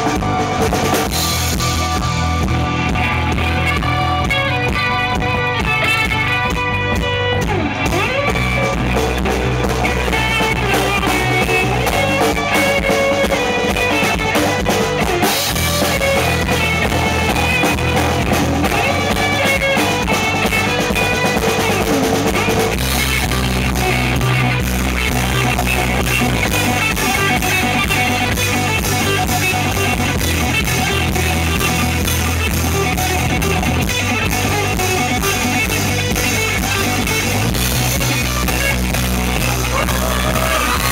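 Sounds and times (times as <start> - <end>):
bass: 0.0 - 40.9
drum kit: 0.0 - 40.9
guitar: 0.0 - 40.9.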